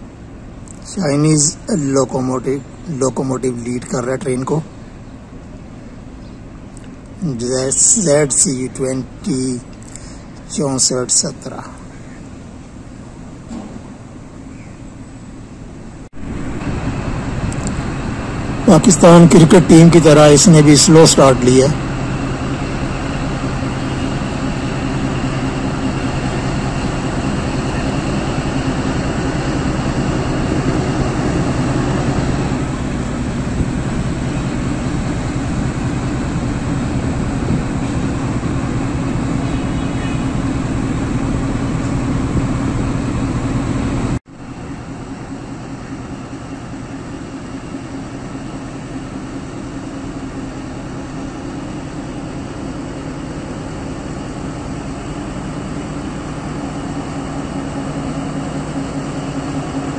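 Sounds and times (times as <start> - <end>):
locomotive low hum: 0.0 - 59.9.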